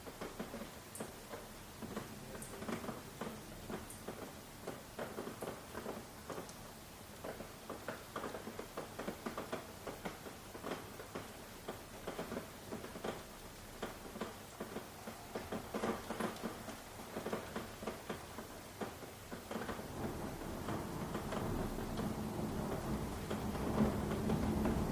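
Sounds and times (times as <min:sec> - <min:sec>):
rain falling: 0:00.0 - 0:24.9.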